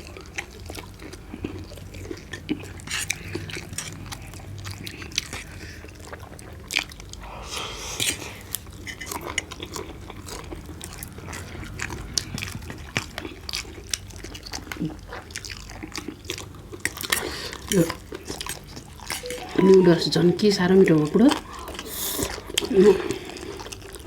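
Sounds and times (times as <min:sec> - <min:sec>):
person chewing crunchy food: 0:00.0 - 0:19.3, 0:21.3 - 0:24.0.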